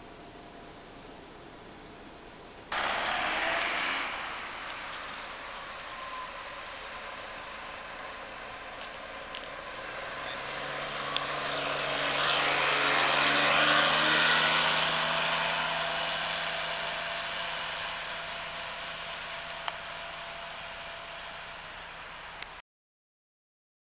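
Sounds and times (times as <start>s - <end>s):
road noise rushing: 0.7s - 22.6s
car engine driving past: 2.7s - 22.6s.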